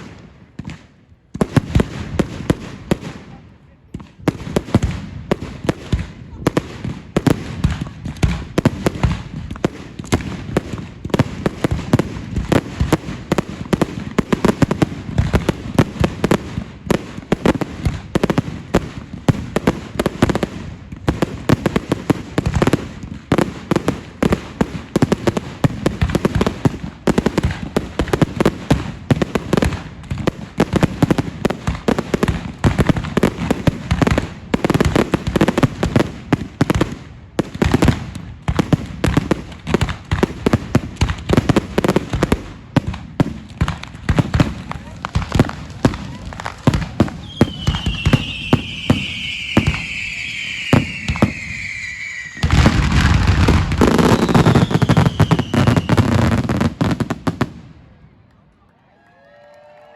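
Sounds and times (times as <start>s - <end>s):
fireworks cracking and banging: 0.0s - 58.4s.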